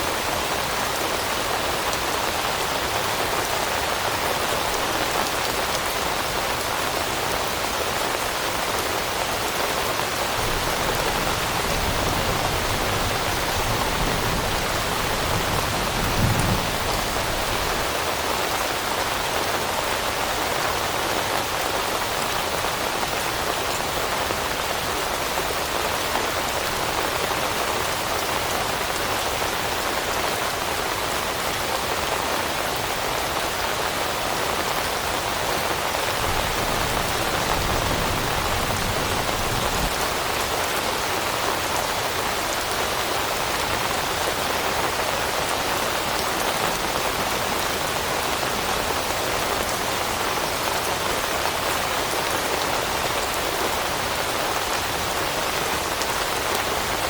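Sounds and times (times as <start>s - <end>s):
raindrops pattering on surfaces: 0.1s - 57.0s.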